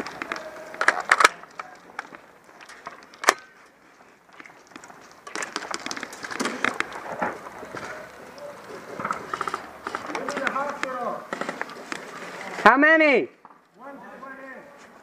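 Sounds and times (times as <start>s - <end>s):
crunching scuffing footsteps: 0.0s - 12.7s.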